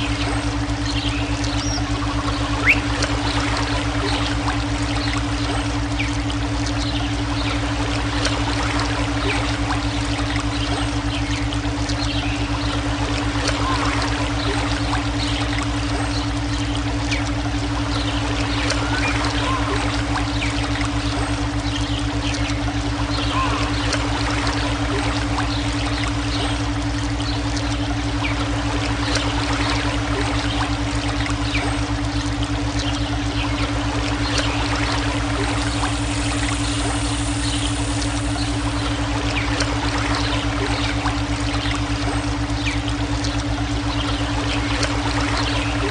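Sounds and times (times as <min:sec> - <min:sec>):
low pulsing drone: 0:00.0 - 0:45.9
running water splashing: 0:00.0 - 0:45.9
steady synthetic hum: 0:00.0 - 0:45.9.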